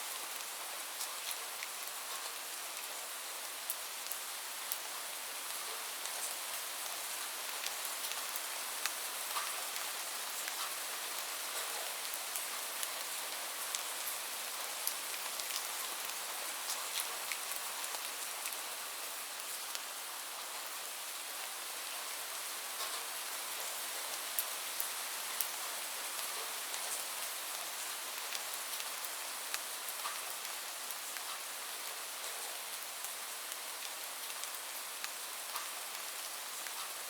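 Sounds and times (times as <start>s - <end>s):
light rain falling: 0.0s - 37.0s.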